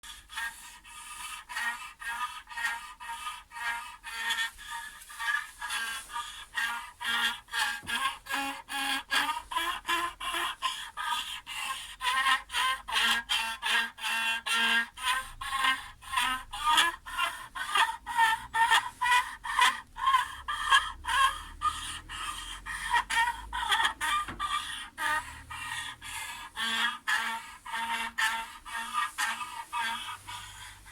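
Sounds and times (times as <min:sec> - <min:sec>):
bowed string screeching: 0:00.1 - 0:30.9.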